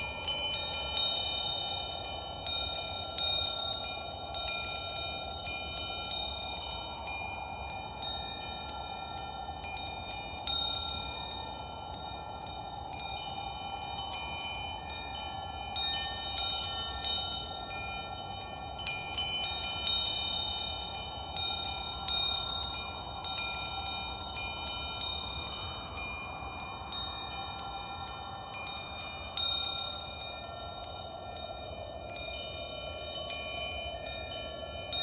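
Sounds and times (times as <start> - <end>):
metal wind chimes ringing: 0.0 - 35.0.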